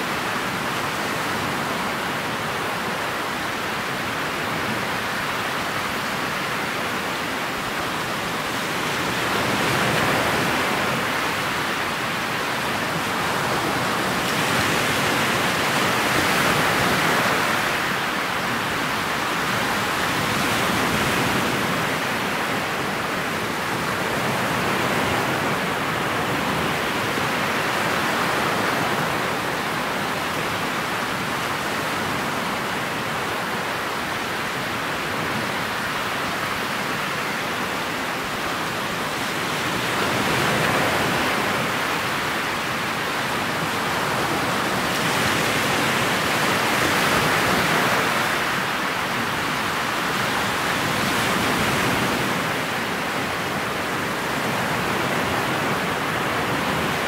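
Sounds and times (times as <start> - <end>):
water rushing along boat hull: 0.0 - 57.0.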